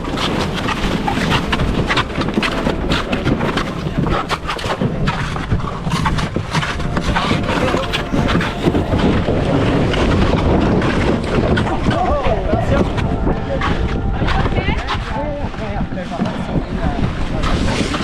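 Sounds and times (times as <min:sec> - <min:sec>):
irregular knocks and thumps: 0:00.0 - 0:15.0
wind buffeting microphone: 0:00.0 - 0:18.0.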